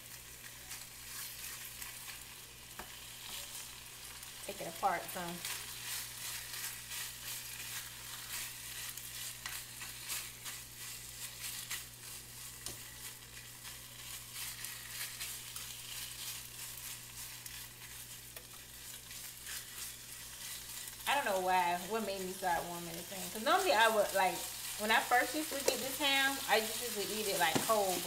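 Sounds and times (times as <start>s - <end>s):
meat sizzling in oil: 0.0s - 28.0s
fork pulling slices in pan: 0.4s - 28.0s.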